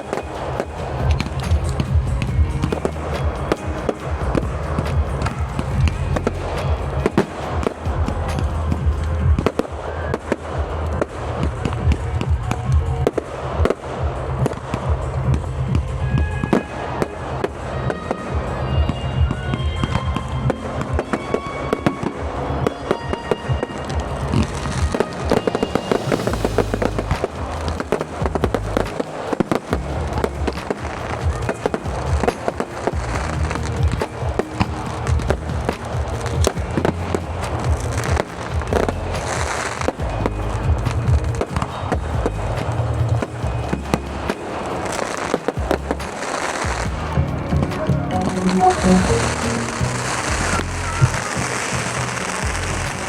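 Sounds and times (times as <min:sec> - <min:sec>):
fireworks bangs and crackles: 0:00.0 - 0:53.0
music playing: 0:00.0 - 0:53.0.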